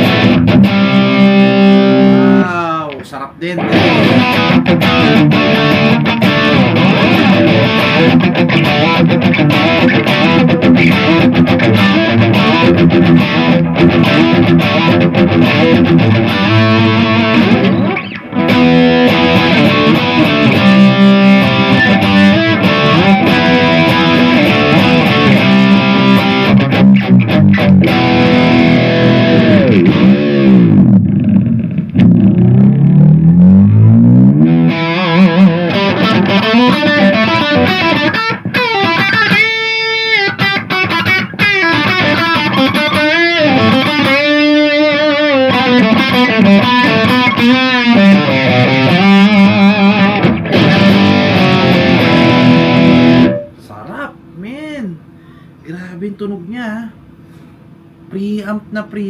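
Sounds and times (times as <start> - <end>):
distorted electric guitar riffing: 0.0 - 54.0.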